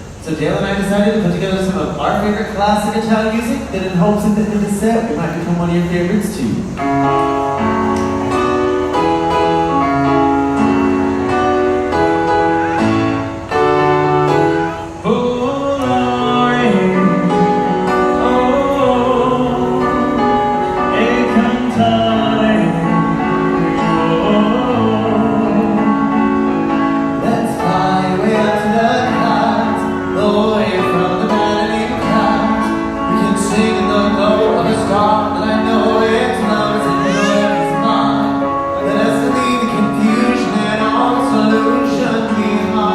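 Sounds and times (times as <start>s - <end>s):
person singing with vibrato: 5.8s - 42.9s
instrumental accompaniment: 6.6s - 42.9s.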